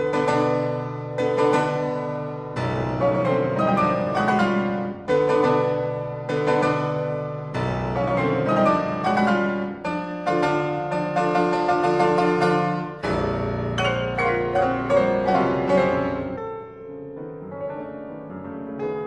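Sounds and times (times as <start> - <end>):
solo piano playing chords: 0.0 - 19.0.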